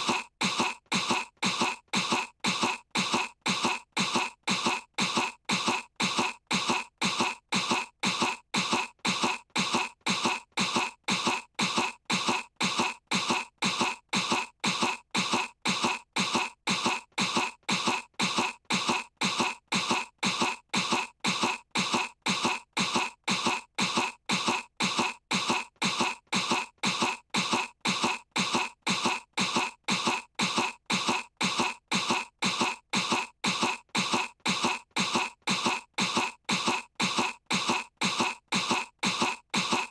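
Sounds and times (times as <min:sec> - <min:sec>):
cartoon girl coughing: 0:00.0 - 0:39.9.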